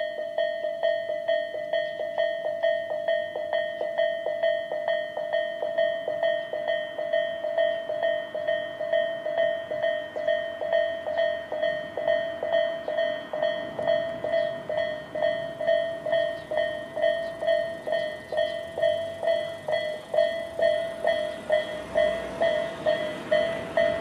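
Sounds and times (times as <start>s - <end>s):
level crossing warning bell: 0.0s - 24.0s.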